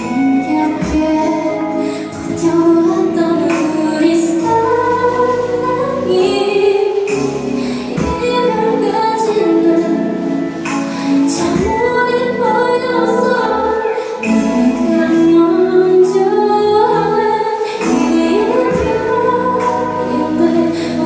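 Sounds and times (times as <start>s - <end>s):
musical accompaniment: 0.0s - 21.0s
woman singing into microphone: 0.0s - 21.0s.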